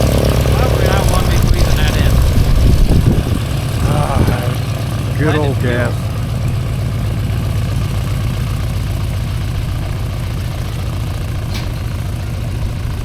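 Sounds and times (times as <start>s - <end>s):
model airplane engine idling: 0.0s - 13.0s.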